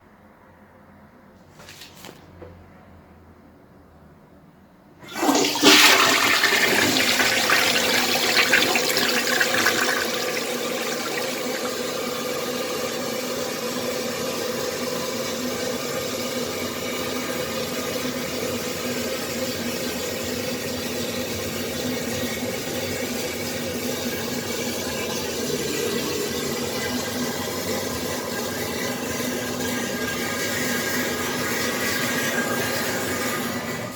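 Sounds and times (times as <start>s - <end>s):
toilet flushing: 5.0s - 33.9s.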